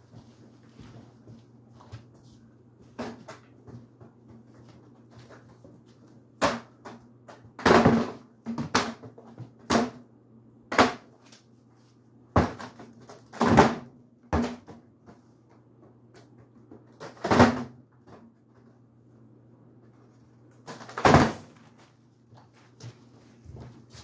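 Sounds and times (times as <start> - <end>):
ceiling fan humming: 0.0 - 24.0.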